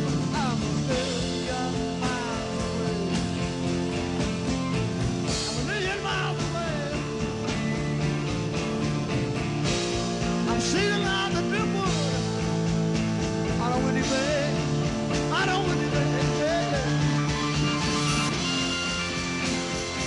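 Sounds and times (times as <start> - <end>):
rock band backing: 0.0 - 20.0
lead guitar bending notes: 1.1 - 20.0.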